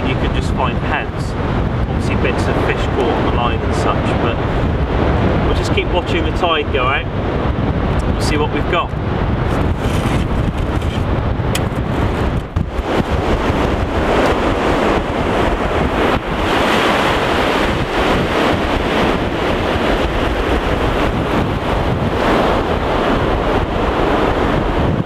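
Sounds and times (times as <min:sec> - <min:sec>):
surf washing up beach: 0:00.0 - 0:25.0
wind rumbling on microphone: 0:00.0 - 0:25.0.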